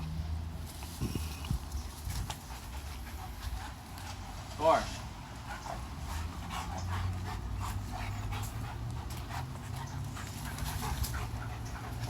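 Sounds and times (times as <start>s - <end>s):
dog panting: 1.0s - 12.0s.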